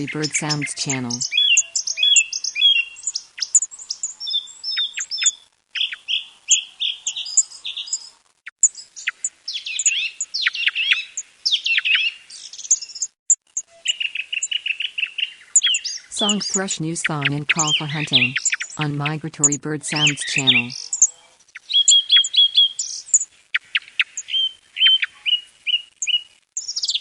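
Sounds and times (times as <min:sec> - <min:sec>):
song thrush singing: 0:00.0 - 0:13.1, 0:13.7 - 0:27.0.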